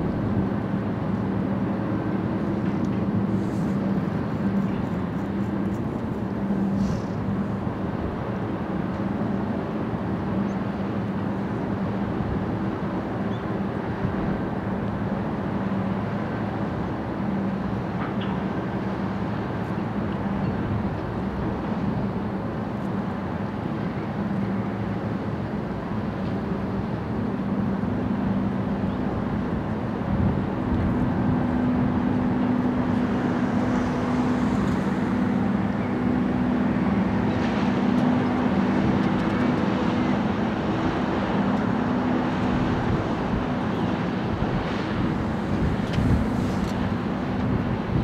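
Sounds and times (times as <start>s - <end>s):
ferry engines droning hum: 0.0s - 48.0s.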